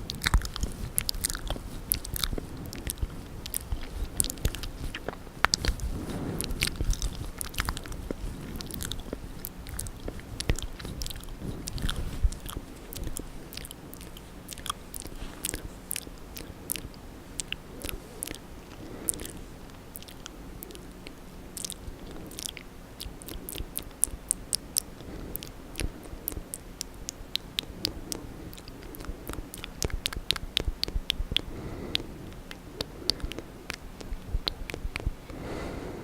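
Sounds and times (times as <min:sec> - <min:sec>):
wet tongue and lip clicks: 0:00.0 - 0:35.5.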